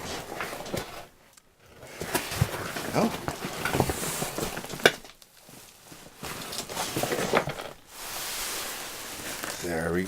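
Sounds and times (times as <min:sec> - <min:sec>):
packaging rustling and crackling: 0:00.0 - 0:10.0.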